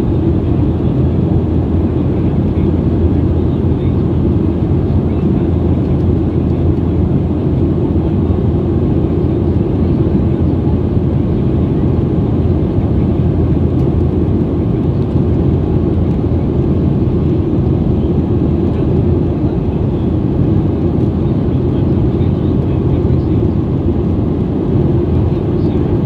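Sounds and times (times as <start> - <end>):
jet cabin engine rumble: 0.0 - 26.0.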